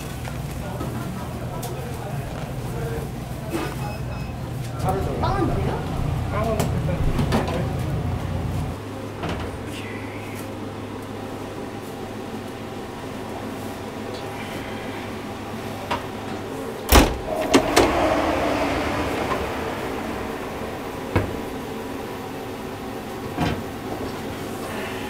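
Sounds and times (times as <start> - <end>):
smoker fan hum: 4.6 - 25.0.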